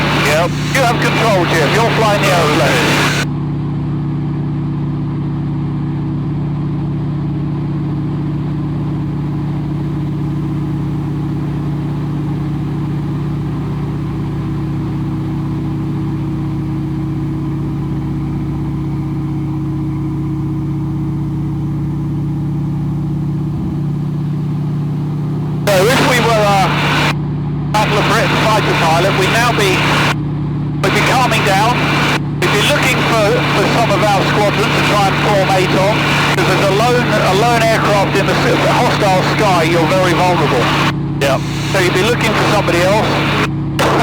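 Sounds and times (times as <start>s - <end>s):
radial aircraft engine droning: 0.0s - 44.0s.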